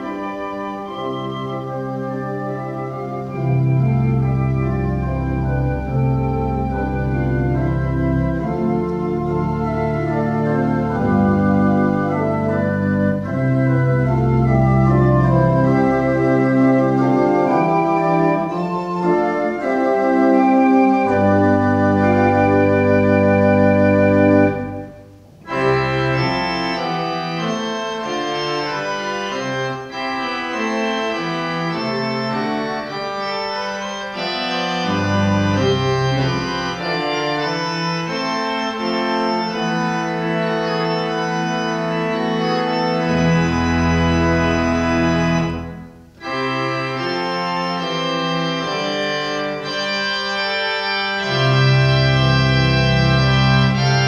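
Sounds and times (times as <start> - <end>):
organ chords: 0.0 - 54.0.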